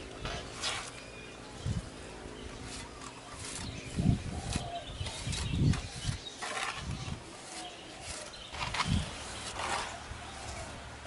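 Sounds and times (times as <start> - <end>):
trowel scraping wet cement: 0.2 - 1.1, 2.4 - 10.8.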